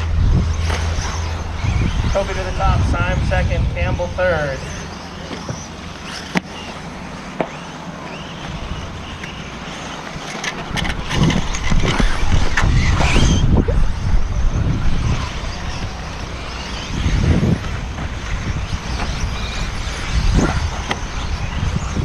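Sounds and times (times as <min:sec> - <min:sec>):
wind buffeting microphone: 0:00.0 - 0:06.6, 0:08.2 - 0:22.0
rc car motors whining: 0:00.0 - 0:22.0
steady noisy background: 0:00.0 - 0:22.0.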